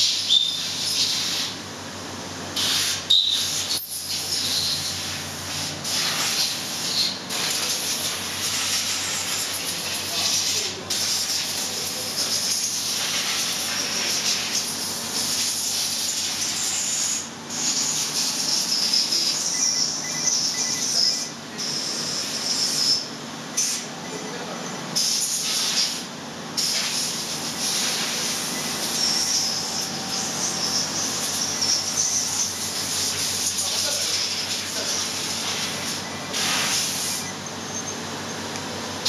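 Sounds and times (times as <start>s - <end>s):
machine shop air hiss: 0.0s - 1.7s, 2.5s - 19.5s, 21.2s - 23.9s, 25.0s - 37.3s.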